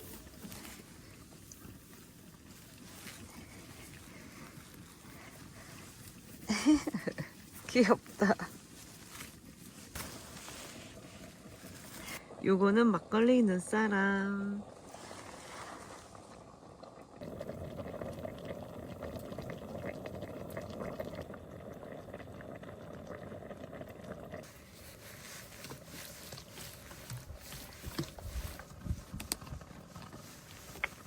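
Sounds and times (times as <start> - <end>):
stew bubbling in a pot: 0.0 - 31.0.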